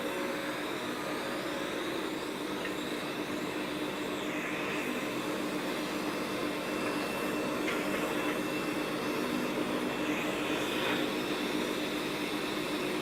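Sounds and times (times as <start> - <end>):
steady hum: 0.0 - 13.0
wood lathe whirring: 0.0 - 13.0.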